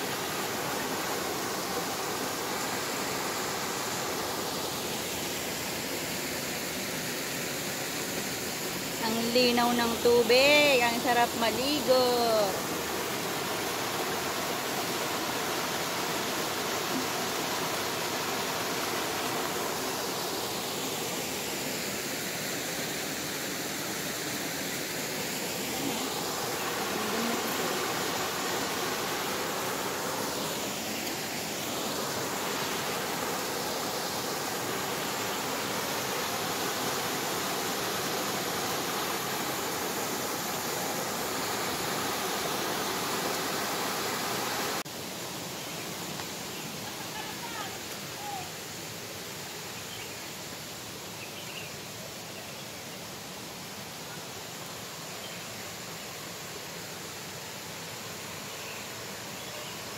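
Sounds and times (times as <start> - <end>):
waterfall pouring over boulders: 0.0 - 59.9.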